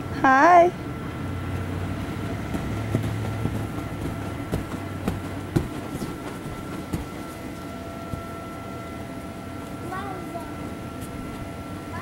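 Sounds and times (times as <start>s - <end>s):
inflator blower humming: 0.0s - 12.0s.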